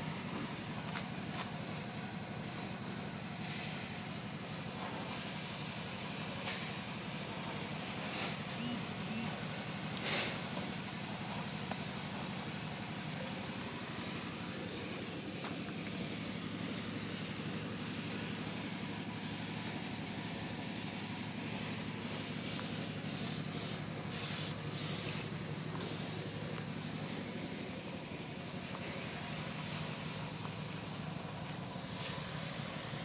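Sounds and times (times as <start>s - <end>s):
even hiss: 0.0s - 33.0s
motor running with low hum: 0.0s - 33.0s.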